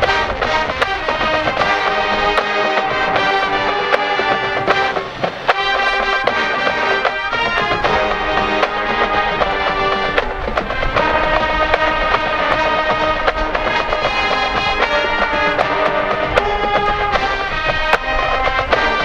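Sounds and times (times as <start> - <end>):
drum hits: 0.0 - 19.0
marching band playing rock: 0.0 - 19.0.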